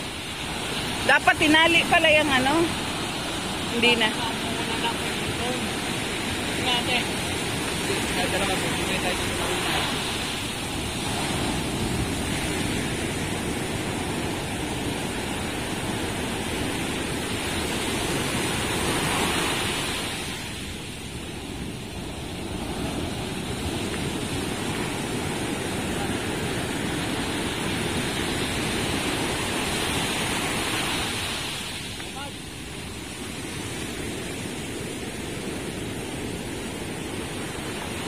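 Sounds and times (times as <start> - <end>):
ocean surf breaking on shore: 0.0 - 38.0.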